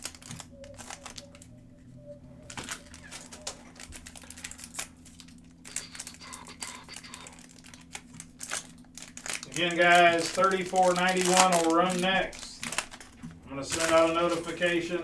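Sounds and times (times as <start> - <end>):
cards clicking and rustling: 0.0 - 1.5, 2.4 - 15.0
plastic wrappers crinkling and tearing: 0.0 - 1.6, 2.4 - 15.0.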